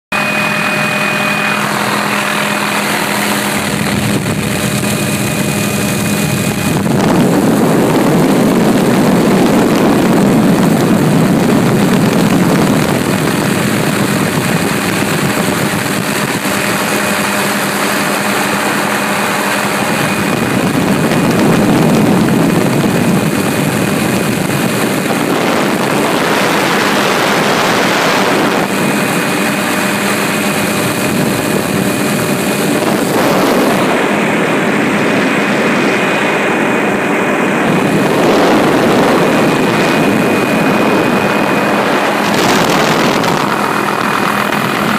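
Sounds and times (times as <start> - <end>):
aircraft engine droning: 0.1 - 44.9
rushing air noise: 0.1 - 44.9.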